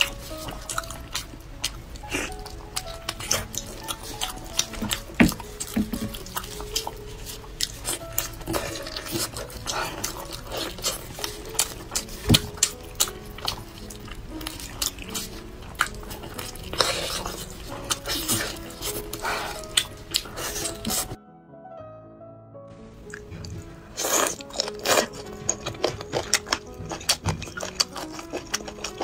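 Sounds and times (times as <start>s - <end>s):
meat tearing off bone: 0.0s - 21.2s, 24.0s - 29.0s
wet chewing and smacking: 0.0s - 21.2s, 23.0s - 29.0s.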